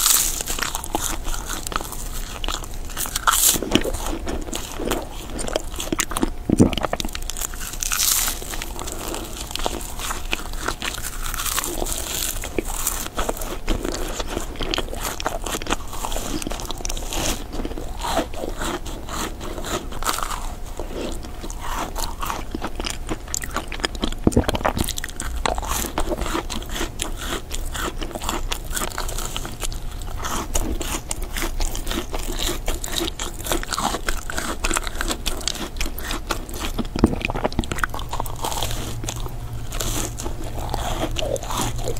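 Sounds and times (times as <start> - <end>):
crunching bites of macarons: 0.0 - 41.9.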